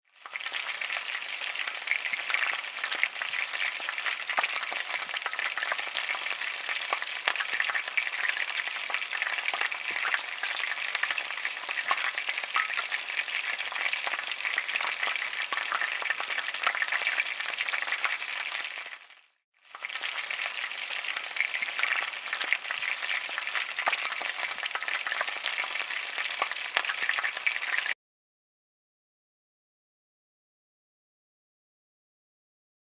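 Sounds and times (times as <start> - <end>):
dough sizzling in hot oil: 0.0 - 28.0.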